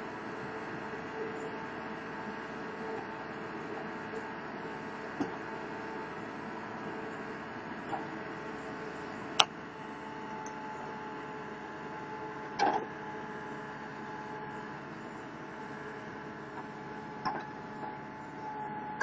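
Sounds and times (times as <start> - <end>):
loader engine humming with whine: 0.0 - 19.0.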